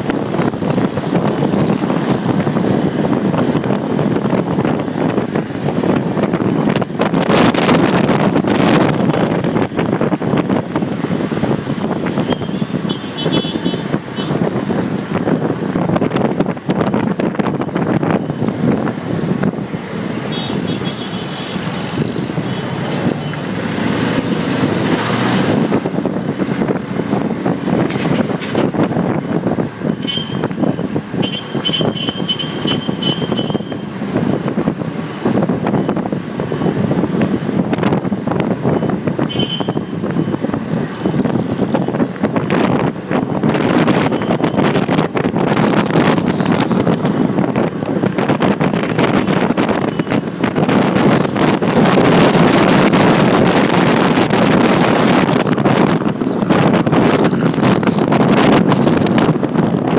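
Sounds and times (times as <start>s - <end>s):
surrounding traffic: 0.0s - 59.9s
wind buffeting microphone: 0.0s - 59.9s.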